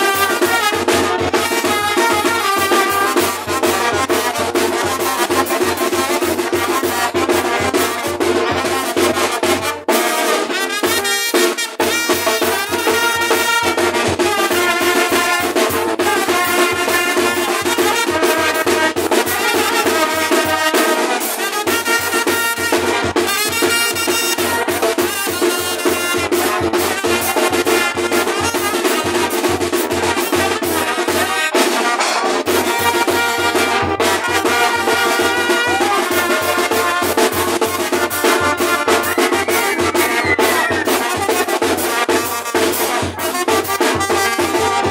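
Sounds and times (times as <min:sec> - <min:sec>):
brass band playing dance music: 0:00.0 - 0:44.9
steady drum beat: 0:00.0 - 0:44.9.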